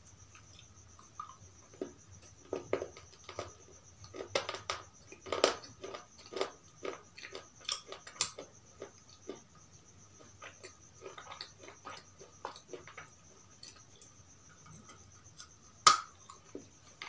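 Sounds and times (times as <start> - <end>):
crunchy chewing: 0.2 - 17.0.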